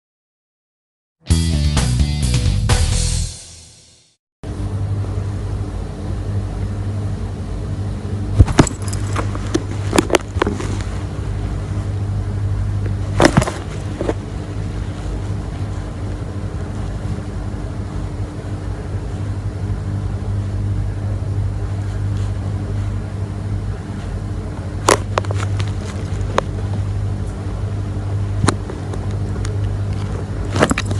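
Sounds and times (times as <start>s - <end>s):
steady low hum: 4.4s - 30.9s.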